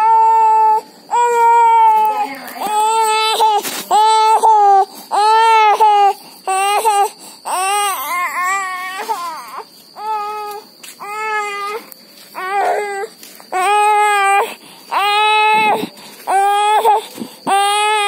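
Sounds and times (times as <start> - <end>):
toddler crying: 0.0 - 18.0.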